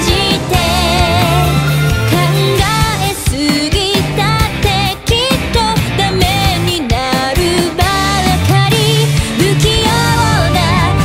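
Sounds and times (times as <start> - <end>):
drums and bass backing: 0.0 - 11.0
person singing with vibrato: 0.0 - 11.0.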